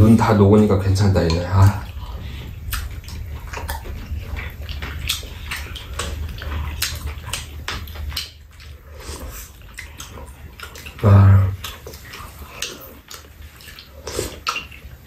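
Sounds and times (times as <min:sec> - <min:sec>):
wet chewing and slurping: 0:00.5 - 0:15.0.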